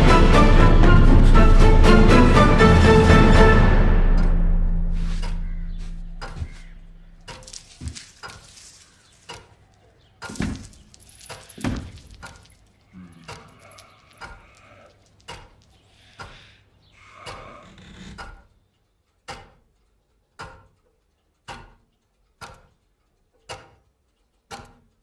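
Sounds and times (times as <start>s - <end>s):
clock ticking: 0.0s - 10.7s, 11.5s - 25.0s.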